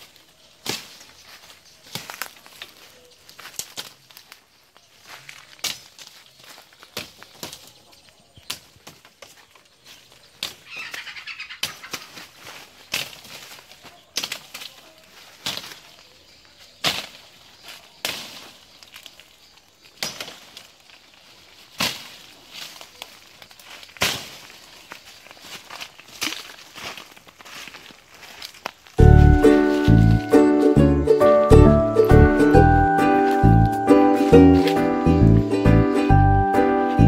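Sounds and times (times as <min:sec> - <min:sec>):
brush rustling: 0:00.0 - 0:37.0
footsteps crunching on dry leaves: 0:00.0 - 0:37.0.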